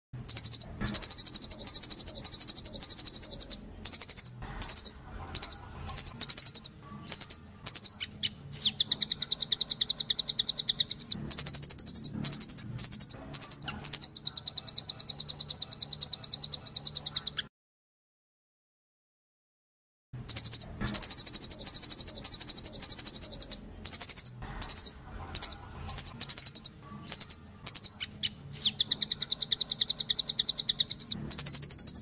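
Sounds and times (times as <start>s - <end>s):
nuthatch high trills: 0.3s - 17.5s, 20.3s - 32.0s.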